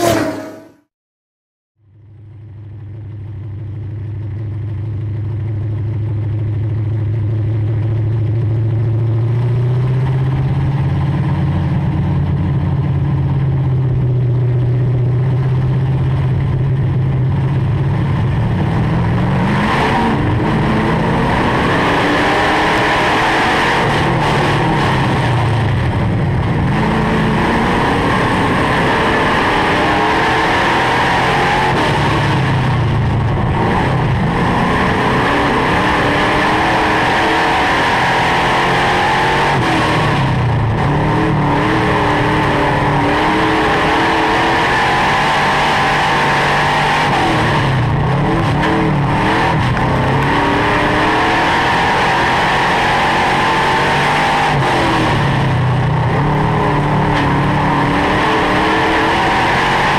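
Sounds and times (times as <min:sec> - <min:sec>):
stock car engine revving: 0:00.0 - 0:00.8, 0:07.0 - 0:59.9.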